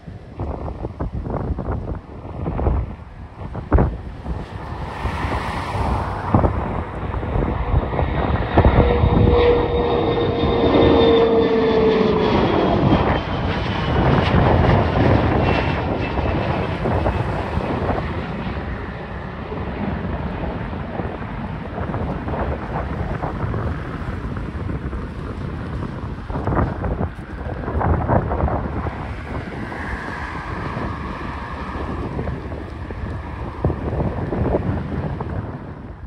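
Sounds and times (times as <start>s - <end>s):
airplane taking off: 0.0s - 36.0s.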